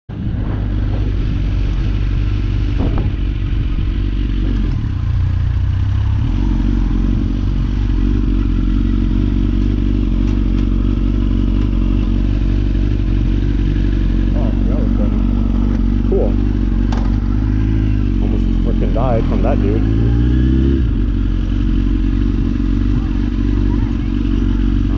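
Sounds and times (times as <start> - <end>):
vehicle engine running: 0.1 - 24.9.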